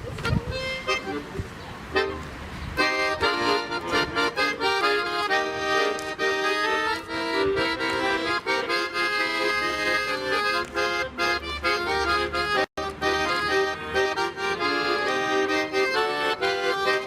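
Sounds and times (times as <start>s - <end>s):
accordion playing: 0.0s - 17.0s.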